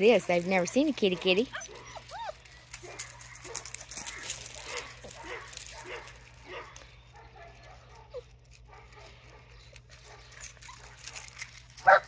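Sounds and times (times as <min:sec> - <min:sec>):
puppies yipping and whining: 0:00.2 - 0:12.0.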